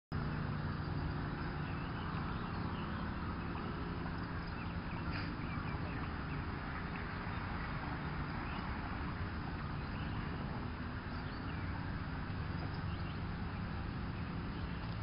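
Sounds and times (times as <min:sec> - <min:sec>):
low mechanical hum: 0:00.1 - 0:15.0
small birds chirping: 0:00.2 - 0:15.0.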